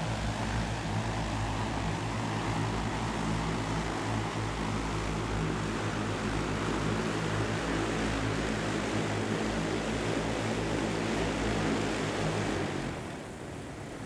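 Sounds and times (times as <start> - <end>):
drone propellers humming: 0.0 - 14.0.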